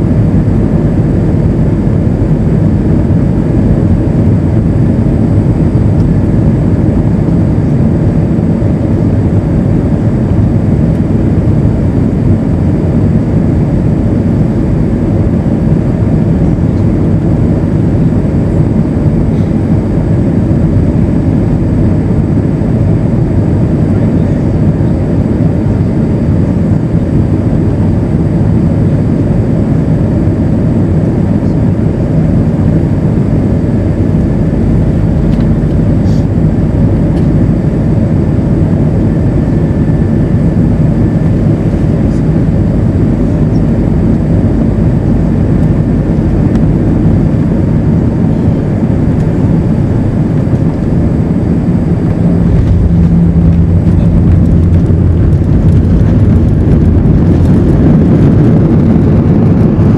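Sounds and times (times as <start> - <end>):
airliner cabin engine roar: 0.0 - 59.9.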